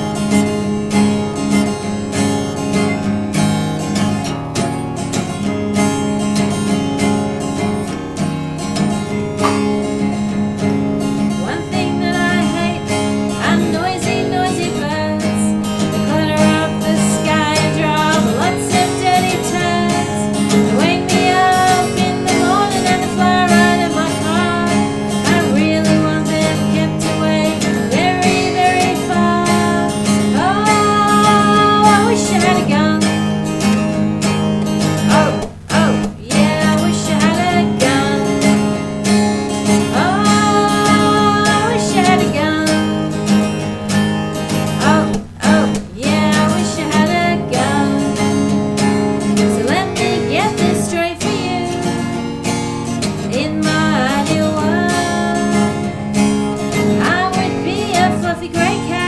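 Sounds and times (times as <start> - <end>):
acoustic guitar strumming: 0.0 - 59.0
person singing: 3.8 - 33.9, 34.7 - 59.0.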